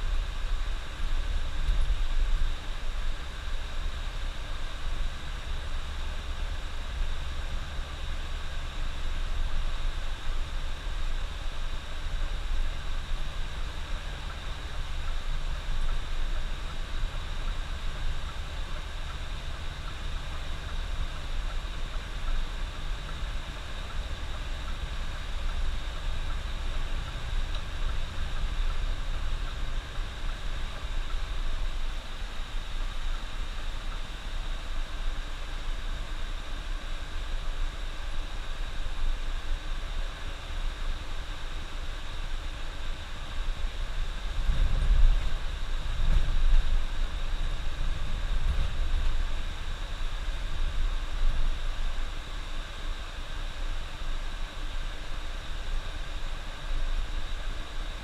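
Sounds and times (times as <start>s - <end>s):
continuous hiss: 0.0s - 58.0s
engine and road rumble: 0.0s - 58.0s.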